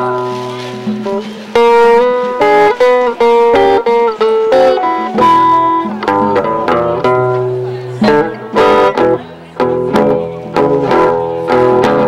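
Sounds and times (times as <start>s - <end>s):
blues band playing: 0.0s - 12.0s
guitar melody with bending notes: 0.0s - 12.0s.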